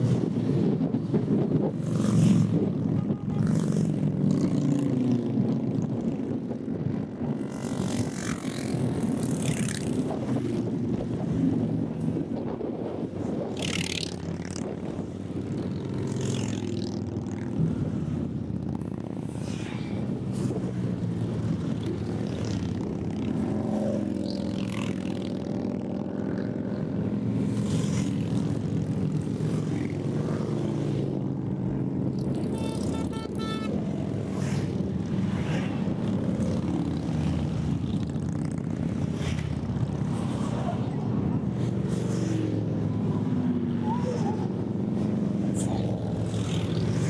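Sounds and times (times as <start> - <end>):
motorcycle engines droning: 0.0 - 47.0
motorcycles swishing past: 3.4 - 12.3, 13.1 - 47.0.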